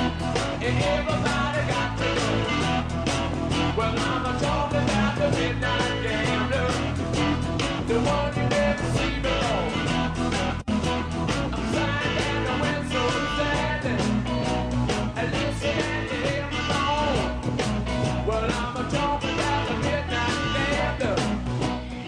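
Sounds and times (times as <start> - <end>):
person singing: 0.0 - 3.0, 3.6 - 10.7, 11.5 - 14.5, 15.1 - 17.4, 18.2 - 22.0
drums: 0.0 - 22.0
electric guitar: 0.0 - 22.0.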